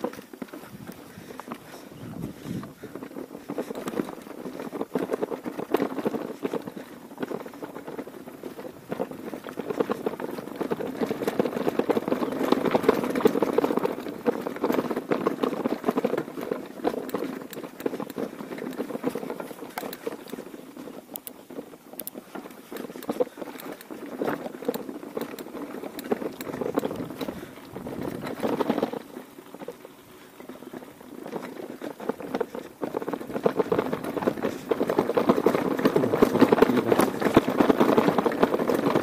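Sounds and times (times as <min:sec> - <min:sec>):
bike rattling over cobblestones: 0:00.0 - 0:39.0.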